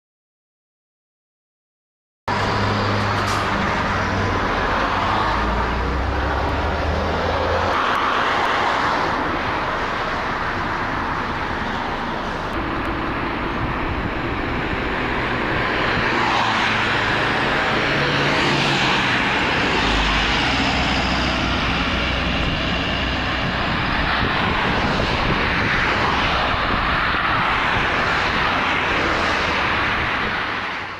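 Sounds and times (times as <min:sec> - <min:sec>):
highway traffic: 0:02.3 - 0:30.9
vehicles passing close by: 0:02.3 - 0:30.9.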